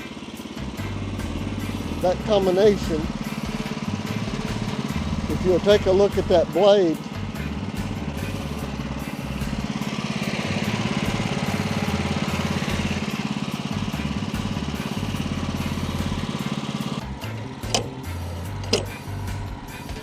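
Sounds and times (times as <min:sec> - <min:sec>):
band saw cutting log: 0:00.0 - 0:20.0
sawmill engine running: 0:00.0 - 0:20.0.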